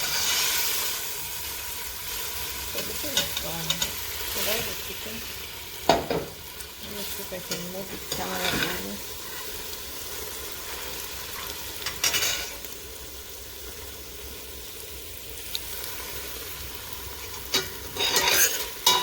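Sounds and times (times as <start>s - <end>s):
food sizzling in pot: 0.0s - 19.0s.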